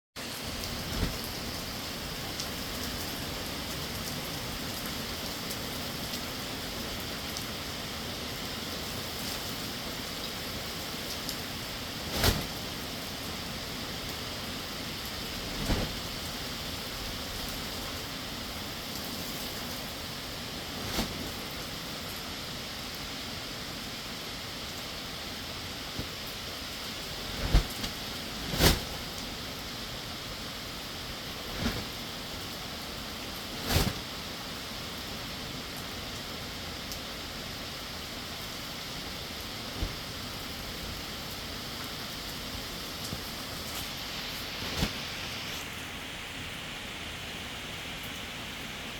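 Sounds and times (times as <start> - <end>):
heavy rain: 0.2 - 48.9.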